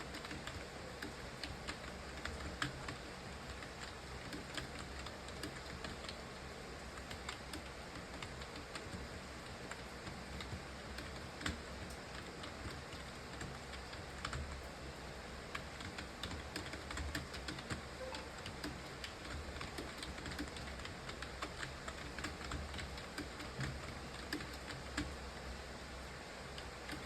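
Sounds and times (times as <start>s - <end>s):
low steady hum: 0.0s - 27.0s
keyboard typing: 0.1s - 6.2s, 7.0s - 9.0s, 9.7s - 14.6s, 15.5s - 25.2s.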